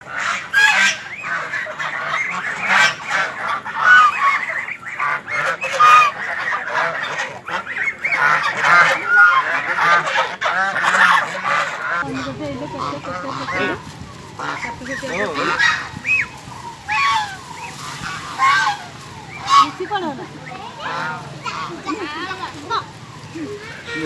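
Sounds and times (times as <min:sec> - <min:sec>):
ducks quacking and honking: 0:00.0 - 0:24.0.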